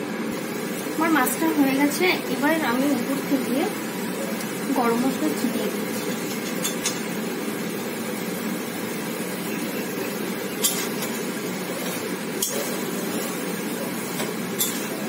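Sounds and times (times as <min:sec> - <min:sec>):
low cooking hiss: 0:00.0 - 0:15.0.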